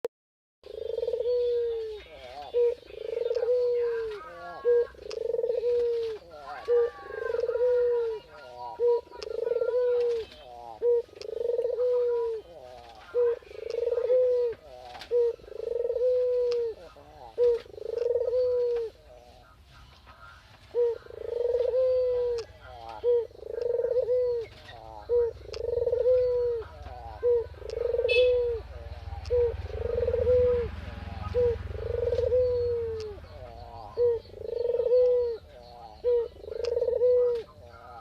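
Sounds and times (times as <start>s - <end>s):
bird calling: 0.6s - 38.0s.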